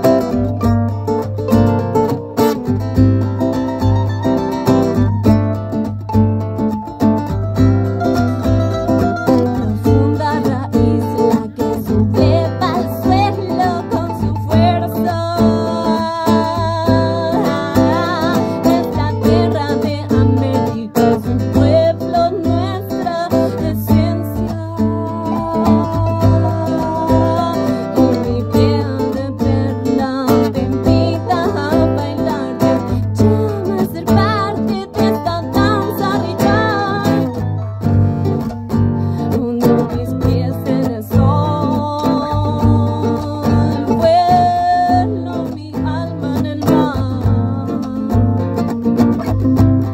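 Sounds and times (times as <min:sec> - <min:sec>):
cajon beat: 0:00.0 - 0:49.9
electric guitar melody: 0:00.0 - 0:49.9
strummed acoustic guitar: 0:00.0 - 0:49.9.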